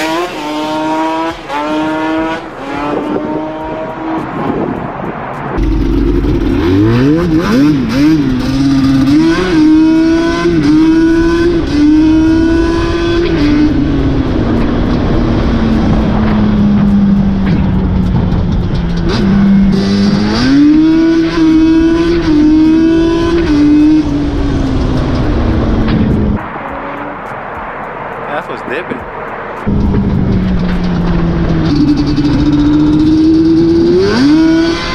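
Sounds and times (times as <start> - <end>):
car engine revving under load: 0.0 - 34.9.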